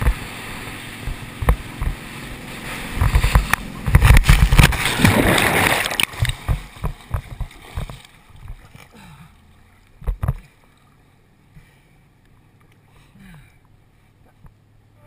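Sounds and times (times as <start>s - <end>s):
distant boat engine drone: 0.0s - 7.2s, 8.2s - 15.0s
water splashing and sloshing: 0.0s - 14.9s.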